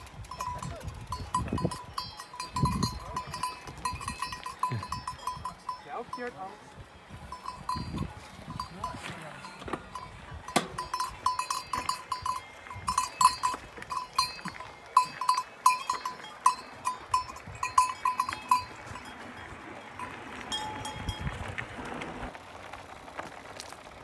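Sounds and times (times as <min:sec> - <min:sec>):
cowbell clanking: 0:00.0 - 0:06.6, 0:07.2 - 0:21.3.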